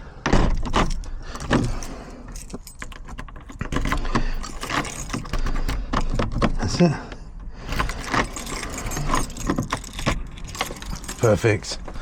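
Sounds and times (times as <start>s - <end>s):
key rattling in door lock: 0.4s - 12.0s
keys jangling: 0.6s - 6.8s, 7.5s - 12.0s.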